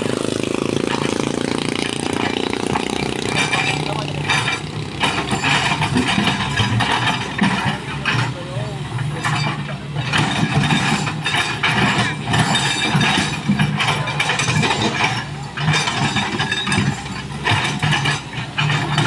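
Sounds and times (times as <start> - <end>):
excavator diesel engine running: 0.0 - 19.0
scraping and knocking: 0.0 - 19.0.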